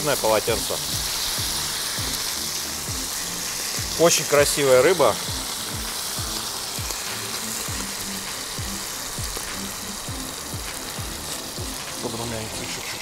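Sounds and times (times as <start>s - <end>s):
background music with low beat: 0.0s - 13.0s
fish frying in hot oil: 0.0s - 13.0s.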